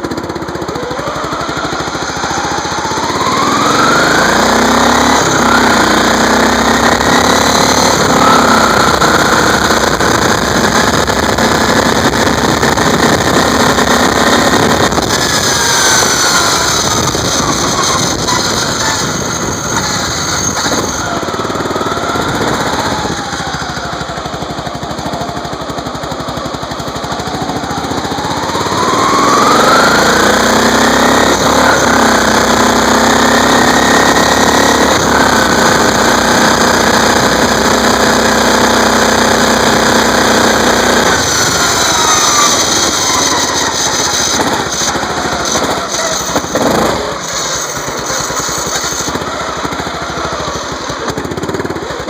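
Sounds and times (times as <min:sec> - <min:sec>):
lawn tractor engine running: 0:00.0 - 0:52.0.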